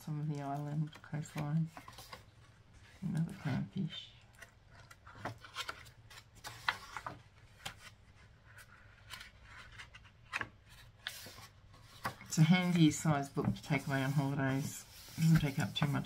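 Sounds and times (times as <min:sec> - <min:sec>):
paper pages rustling: 0:00.4 - 0:03.6, 0:04.3 - 0:16.0.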